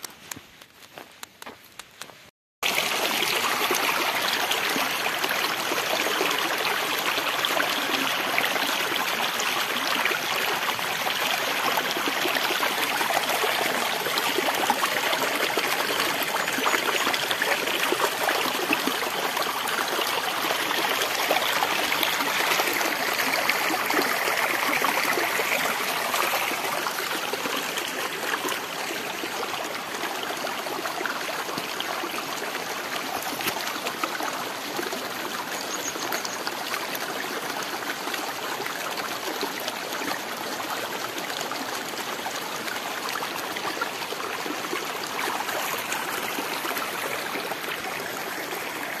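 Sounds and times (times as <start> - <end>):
stream running over rocks: 0.0 - 49.0.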